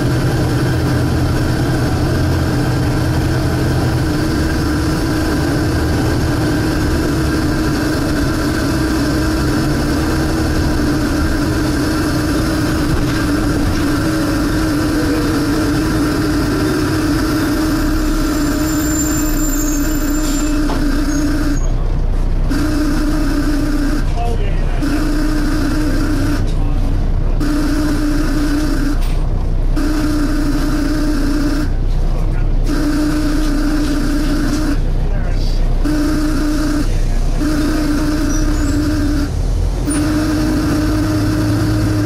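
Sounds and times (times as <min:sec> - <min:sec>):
loud steady suction noise: 0:00.0 - 0:21.7, 0:22.5 - 0:24.1, 0:24.7 - 0:26.5, 0:27.4 - 0:29.0, 0:29.8 - 0:31.7, 0:32.7 - 0:34.9, 0:35.8 - 0:39.4, 0:40.0 - 0:42.0
bus diesel engine: 0:00.0 - 0:42.0.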